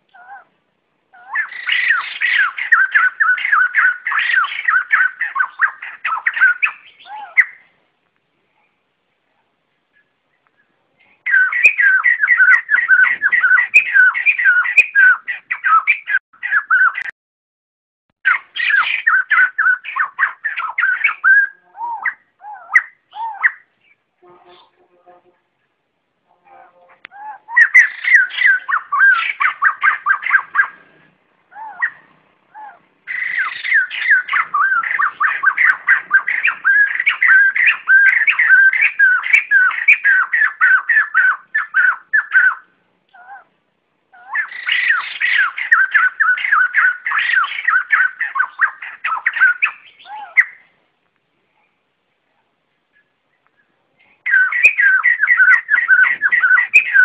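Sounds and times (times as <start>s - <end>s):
laughingthrushes calling: 1.1s - 7.7s, 10.0s - 17.1s, 18.2s - 24.8s, 26.5s - 43.5s, 44.1s - 50.7s, 53.0s - 57.0s.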